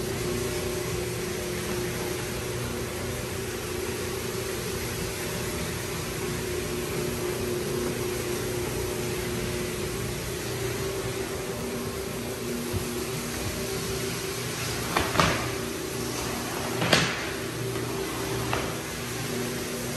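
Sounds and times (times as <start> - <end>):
floor buffer running: 0.0 - 19.9.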